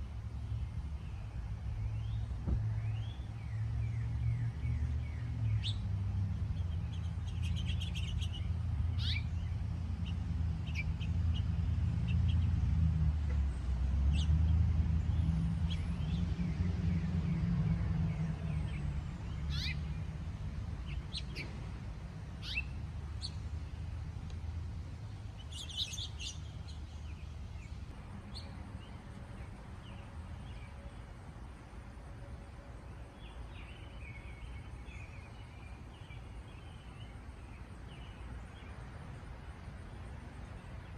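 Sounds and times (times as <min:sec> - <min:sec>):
wild birds chirping: 0:00.0 - 0:40.9.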